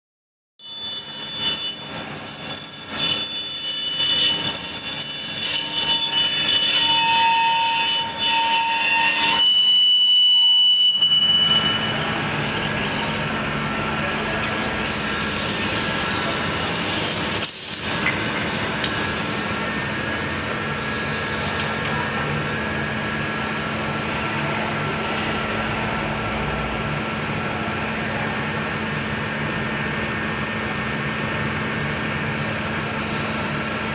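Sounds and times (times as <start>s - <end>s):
high ringing tones: 0.6s - 31.6s
metal lathe machining: 0.6s - 33.9s
low machine hum: 1.7s - 33.9s.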